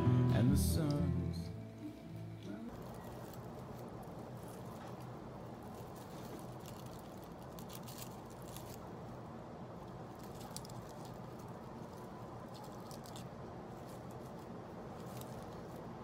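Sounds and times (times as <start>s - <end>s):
dried stems rustling and crackling: 1.7s - 16.0s.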